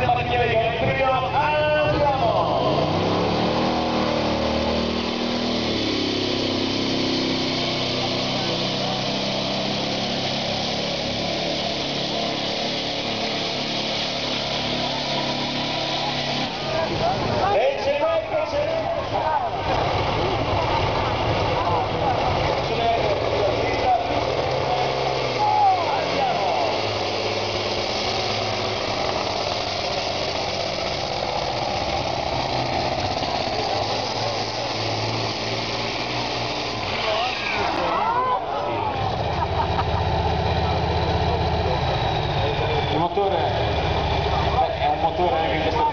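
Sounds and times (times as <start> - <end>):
tractor engine running hard: 0.0 - 45.9.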